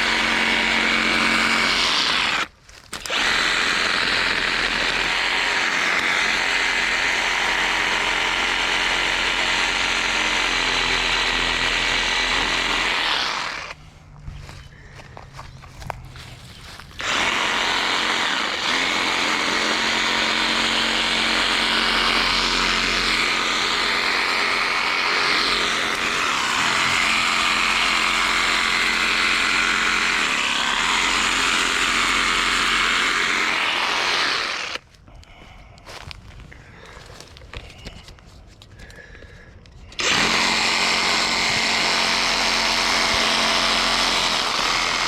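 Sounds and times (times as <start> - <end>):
reciprocating saw cutting branches: 0.0 - 13.8, 16.3 - 34.9, 39.9 - 45.0.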